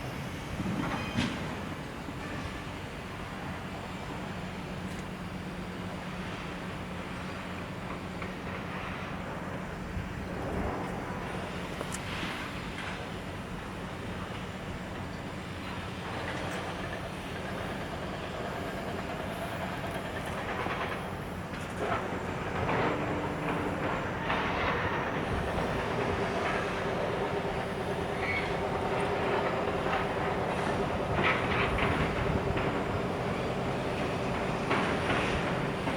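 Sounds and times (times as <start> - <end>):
freight train wheels clacking: 7.1 - 35.9.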